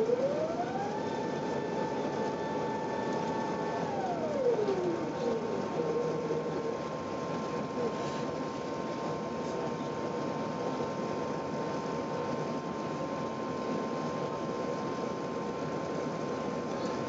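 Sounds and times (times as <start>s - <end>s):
airliner cabin engine and airflow rush: 0.0s - 17.0s
faint steady whine: 0.0s - 17.0s.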